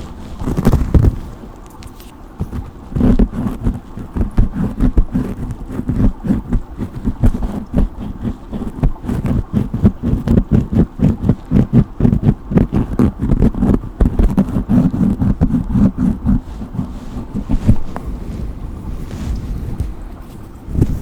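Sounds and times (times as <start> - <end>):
hairbrush strokes through hair: 2.4 - 21.0.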